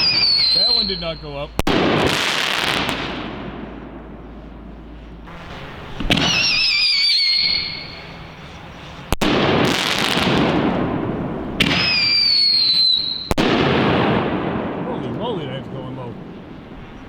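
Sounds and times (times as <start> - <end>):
descending firework whistle: 0.0 - 14.6
firework bangs: 0.0 - 17.0.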